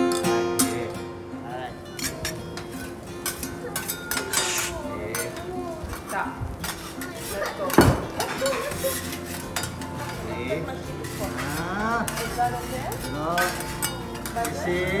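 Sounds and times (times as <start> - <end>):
metal utensils clinking and scraping: 0.0 - 1.0, 1.8 - 15.0.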